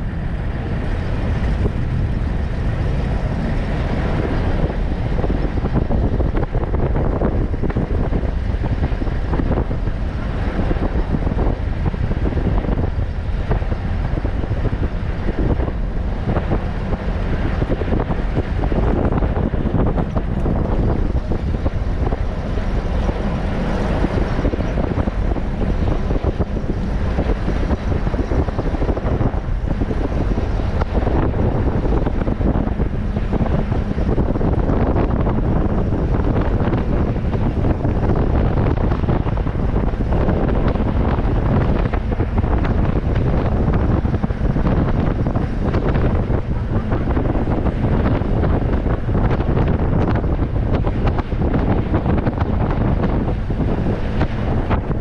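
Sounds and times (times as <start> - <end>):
vehicle engine rumble: 0.0 - 55.0
wind buffeting microphone: 0.0 - 55.0.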